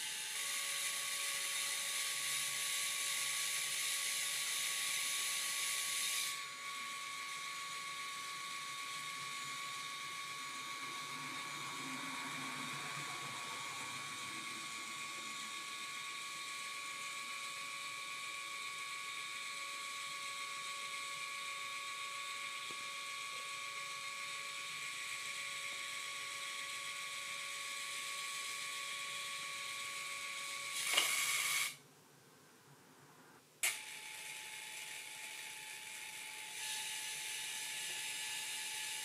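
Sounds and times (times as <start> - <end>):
printer motor whirring: 0.0 - 31.8, 33.6 - 39.0.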